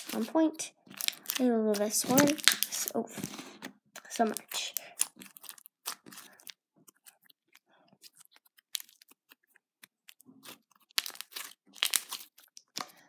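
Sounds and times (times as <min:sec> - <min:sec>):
slime squished by hand: 0:00.0 - 0:03.4, 0:04.0 - 0:13.0.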